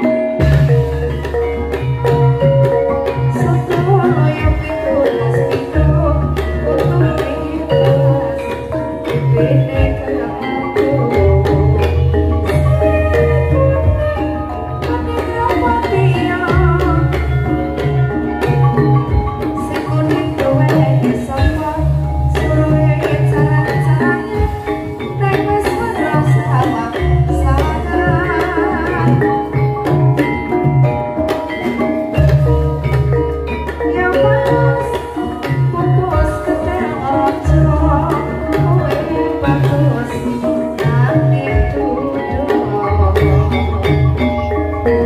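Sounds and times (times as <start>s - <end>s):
hand drums beating: 0.0s - 45.0s
ringing metallophones: 0.0s - 45.0s
woman singing with vibrato: 0.0s - 45.0s.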